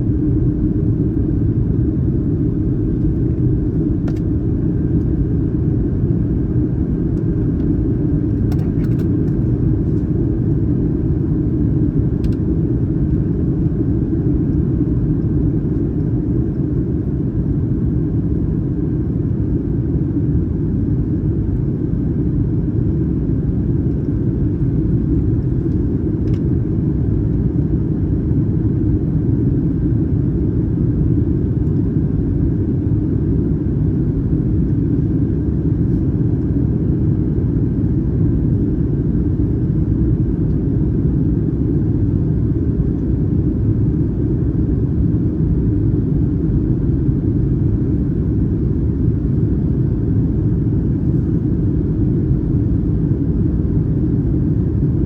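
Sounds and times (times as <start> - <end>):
jet engine and airflow noise: 0.0 - 55.0.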